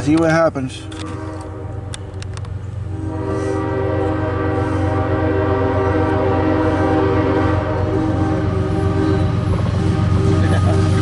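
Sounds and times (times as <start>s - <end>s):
rumble of locomotive engines: 0.0s - 11.0s
train horn blast: 0.8s - 2.2s, 2.9s - 11.0s.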